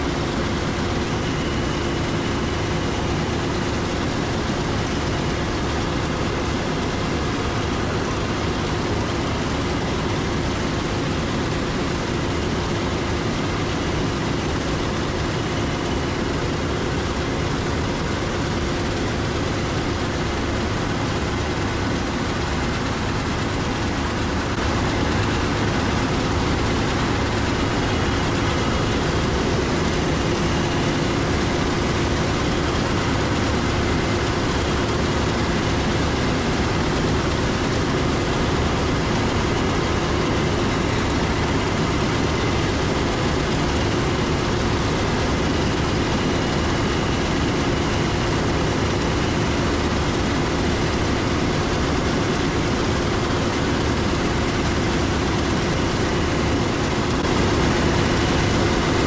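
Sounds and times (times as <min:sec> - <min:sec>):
diesel engine drone: 0:00.0 - 0:59.0
steady hum: 0:00.0 - 0:59.0.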